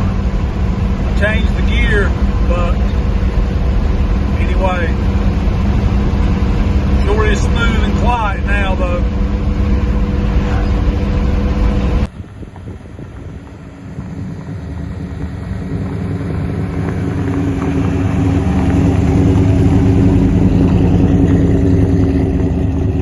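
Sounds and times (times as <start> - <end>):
car engine running smoothly: 0.0 - 23.0.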